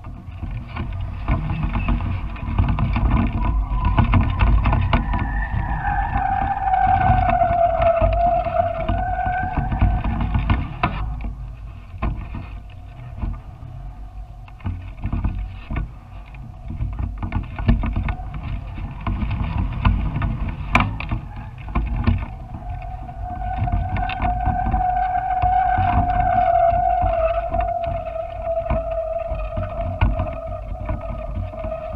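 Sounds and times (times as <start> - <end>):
thin steady whine: 0.0 - 31.9
wind buffeting microphone: 0.0 - 31.9.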